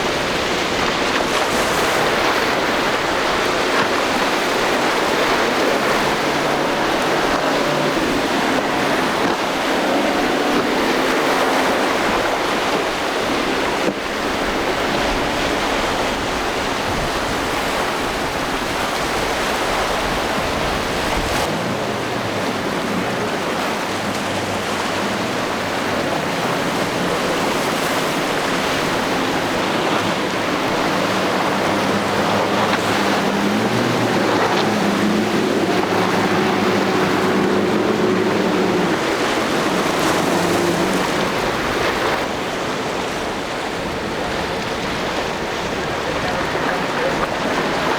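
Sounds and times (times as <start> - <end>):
motorboat engines droning: 0.0 - 47.9
waves and surf: 0.0 - 47.9
wind rumble on microphone: 0.0 - 47.9.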